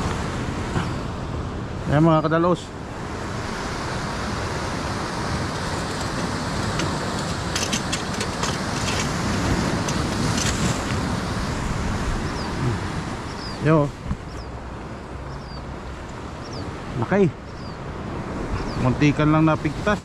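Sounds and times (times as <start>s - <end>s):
surf rushing: 0.0s - 20.0s
wind: 0.0s - 20.0s.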